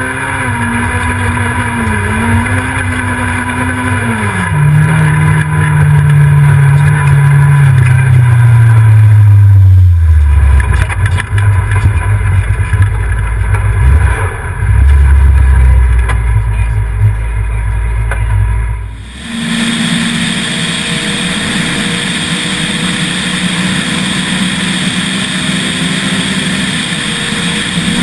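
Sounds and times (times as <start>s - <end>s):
rally car engine running hard: 0.0s - 28.0s
loud low rumble with knocks: 1.1s - 26.8s.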